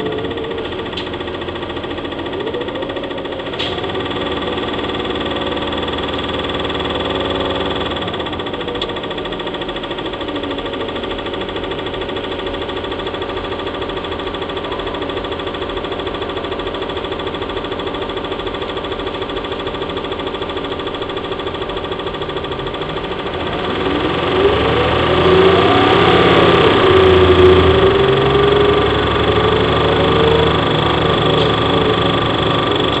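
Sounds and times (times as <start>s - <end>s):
bus diesel engine droning: 0.0s - 33.0s.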